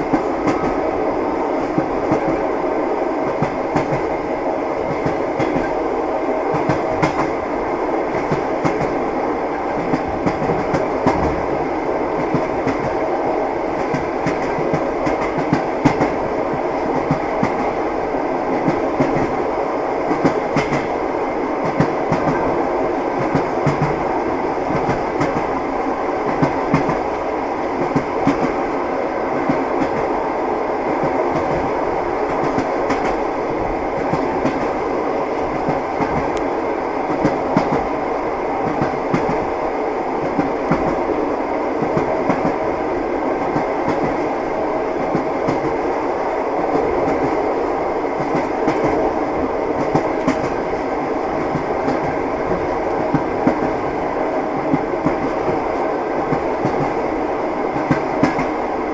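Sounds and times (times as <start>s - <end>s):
rumble of moving train: 0.0s - 58.9s.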